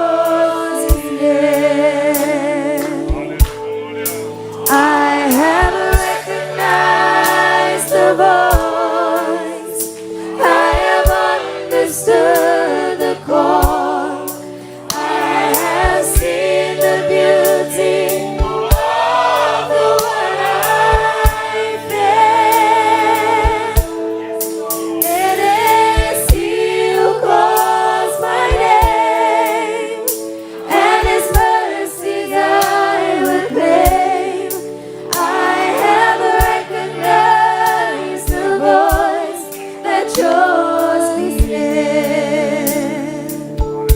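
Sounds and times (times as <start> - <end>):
women singing gospel in harmony: 0.0 - 43.9.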